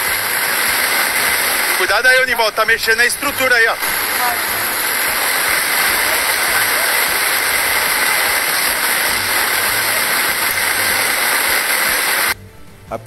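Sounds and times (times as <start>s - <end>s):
floodwater rushing: 0.0s - 12.4s.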